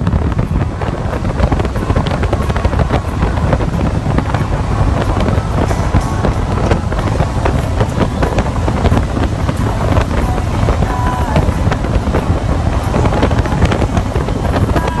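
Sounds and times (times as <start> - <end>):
motorcycle engine cruising: 0.0 - 15.0
wind rush on microphone: 0.0 - 15.0.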